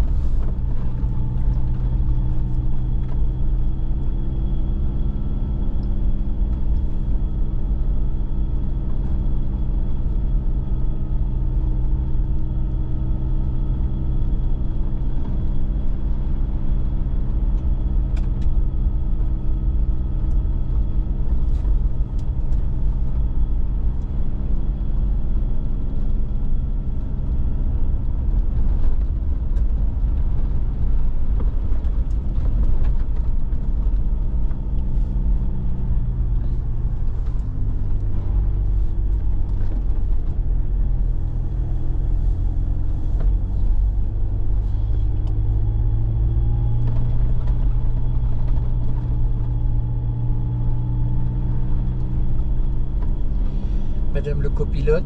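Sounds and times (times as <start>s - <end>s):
car engine under load: 0.0s - 55.0s.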